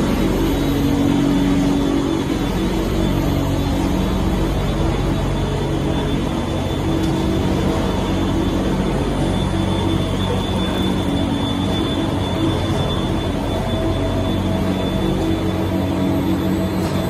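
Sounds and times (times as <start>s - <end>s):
machinery humming: 0.0s - 17.0s
thin high whine: 0.0s - 17.0s.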